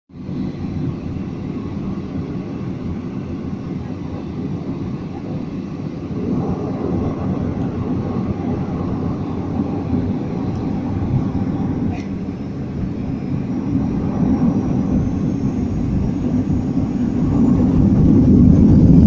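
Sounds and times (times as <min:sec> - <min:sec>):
jet engines drone in cabin: 0:00.1 - 0:19.0.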